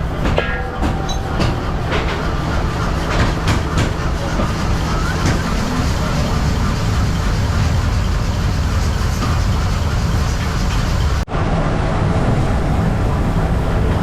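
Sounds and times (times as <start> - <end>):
mechanical rumble: 0.0 - 14.0.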